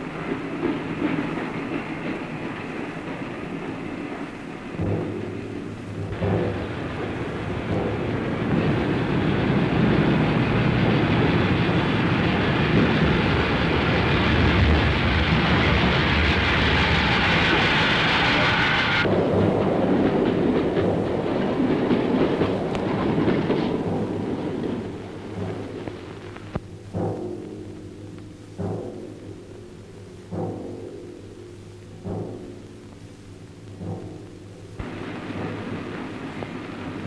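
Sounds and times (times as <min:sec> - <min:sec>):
steam train hiss: 0:00.0 - 0:32.6, 0:34.8 - 0:37.0
train wheels on rails: 0:00.0 - 0:37.0.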